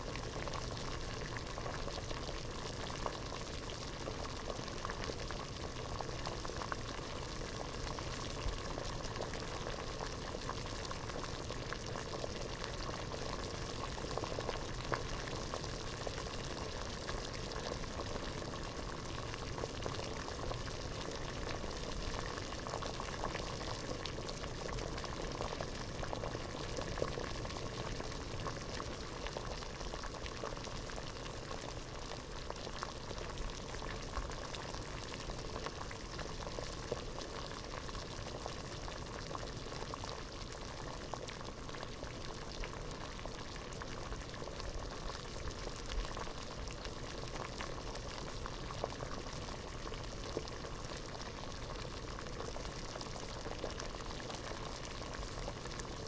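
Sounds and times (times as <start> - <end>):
water boiling in a pot: 0.0 - 56.0.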